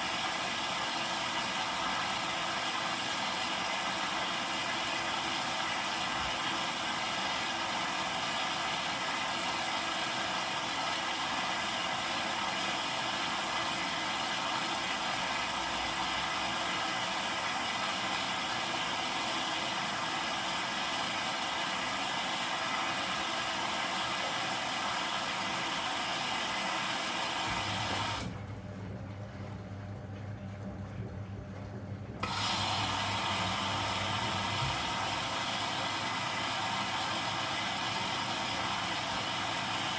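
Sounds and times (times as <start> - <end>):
washing machine hum and whine: 0.0 - 39.9.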